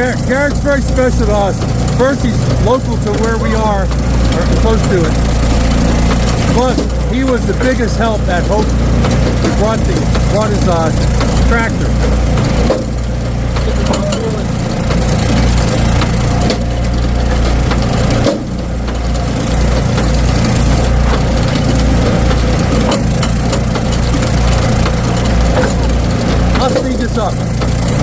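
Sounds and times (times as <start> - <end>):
log splitter engine running: 0.0 - 28.0.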